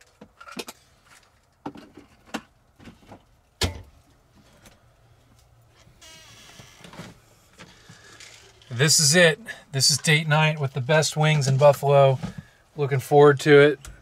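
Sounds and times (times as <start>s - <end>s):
soft steady hiss: 2.7s - 14.0s.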